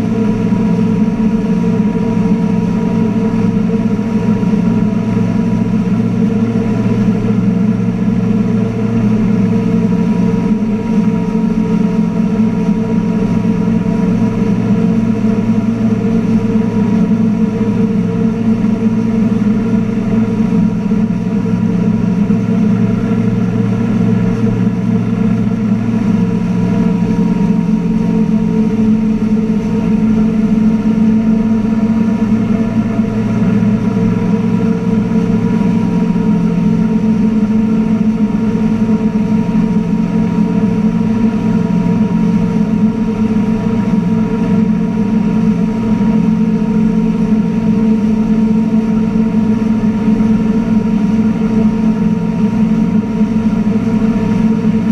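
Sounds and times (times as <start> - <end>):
boat engine droning: 0.0 - 54.9
churning wake water: 0.0 - 54.9.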